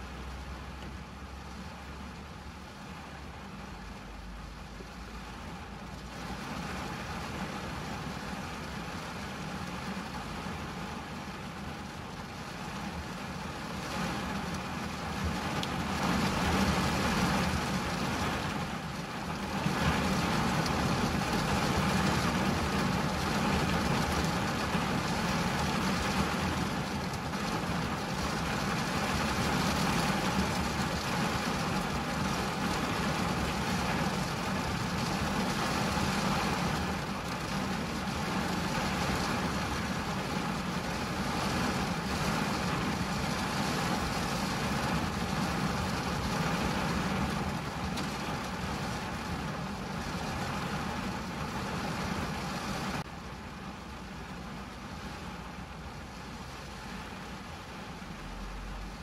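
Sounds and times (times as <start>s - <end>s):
rain on car windshield and roof: 0.0s - 59.0s.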